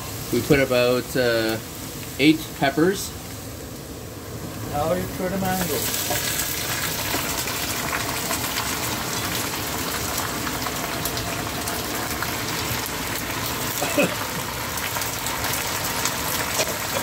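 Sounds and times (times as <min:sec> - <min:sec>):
fruit sizzling in hot oil: 0:00.0 - 0:17.0.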